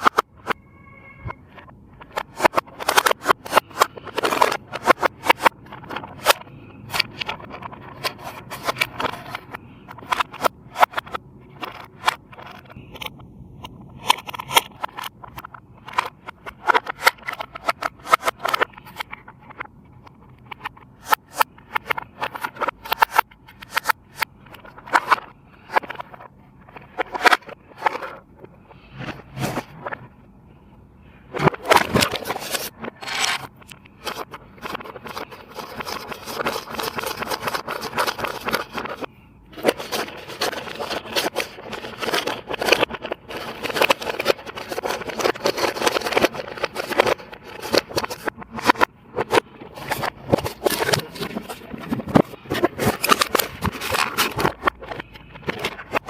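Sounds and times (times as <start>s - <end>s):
handling clicks and scrapes: 0.0s - 56.0s.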